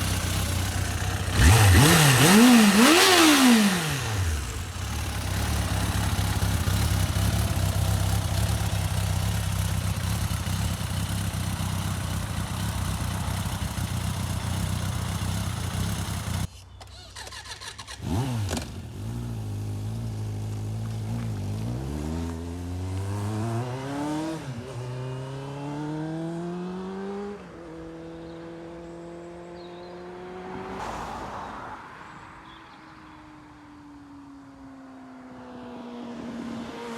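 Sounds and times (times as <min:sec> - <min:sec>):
motorcycle engine accelerating: 0:00.0 - 0:16.5, 0:17.2 - 0:30.8.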